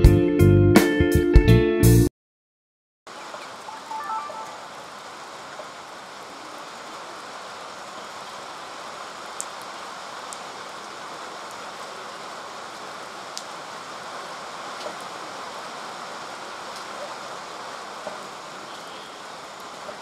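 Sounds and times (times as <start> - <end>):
rain falling on forest: 3.1 - 20.0.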